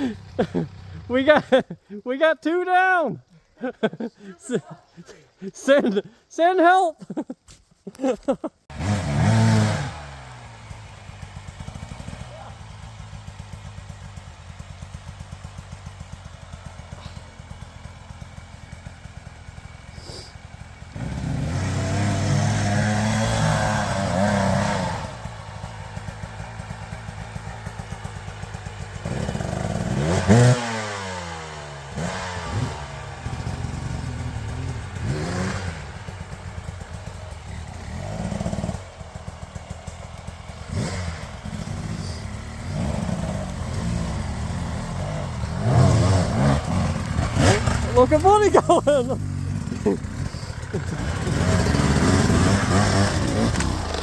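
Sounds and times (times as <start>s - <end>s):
dirt bike engine revving: 8.7s - 54.0s.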